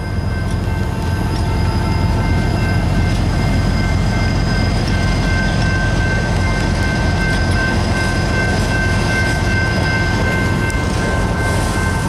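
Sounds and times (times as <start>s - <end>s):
high-pitched ringing tones: 0.0s - 12.0s
steel wheels rumbling on rail: 0.0s - 12.0s.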